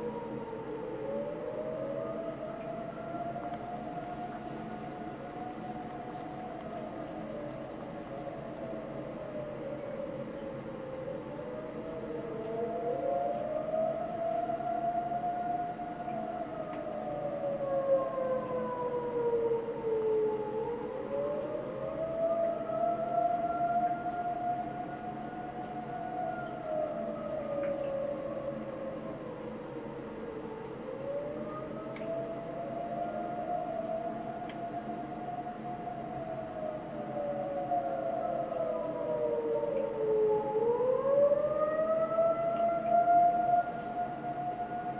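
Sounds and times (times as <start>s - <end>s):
warning sirens wailing: 0.0s - 44.9s.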